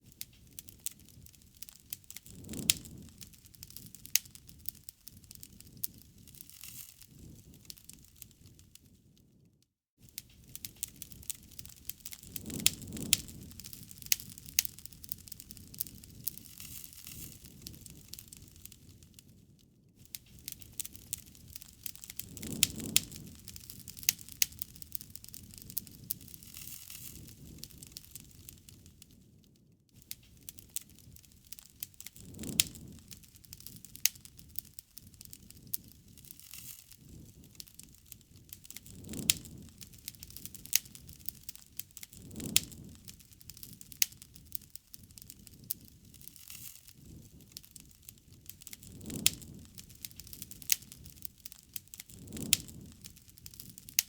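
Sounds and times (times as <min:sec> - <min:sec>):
wood fire crackling and popping: 0:00.0 - 0:09.3, 0:10.0 - 0:54.0
low rush of burning: 0:00.1 - 0:09.2, 0:10.2 - 0:19.5, 0:20.1 - 0:29.4, 0:30.0 - 0:54.0
low flame noise: 0:00.2 - 0:09.1, 0:10.2 - 0:19.5, 0:20.1 - 0:29.4, 0:30.0 - 0:54.0.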